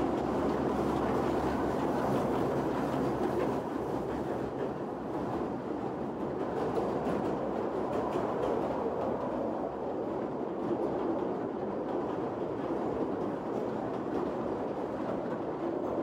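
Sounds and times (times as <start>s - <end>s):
rumble of train wheels on rail: 0.0s - 16.0s.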